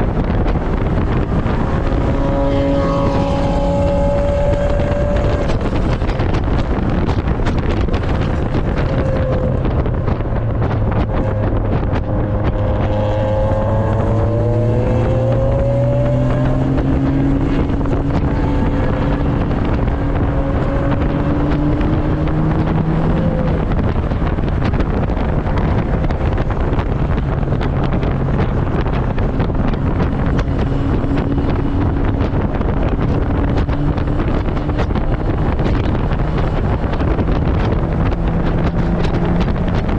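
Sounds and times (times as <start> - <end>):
car engine revving: 0.0 - 39.9
heavy wind noise: 0.0 - 39.9.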